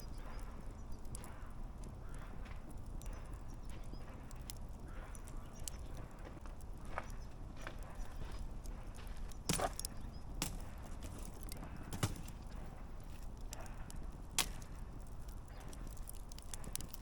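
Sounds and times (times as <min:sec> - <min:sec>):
campfire burning with pops and crackles: 0:00.0 - 0:17.0.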